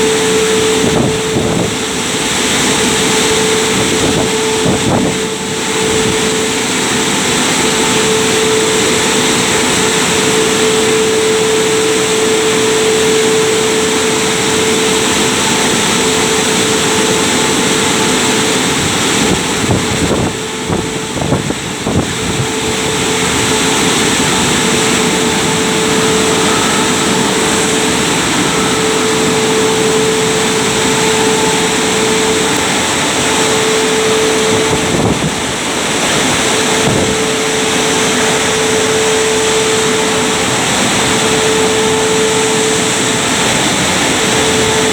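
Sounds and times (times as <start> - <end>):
car wash rushing noise: 0.0 - 44.9
constant hum: 0.0 - 44.9.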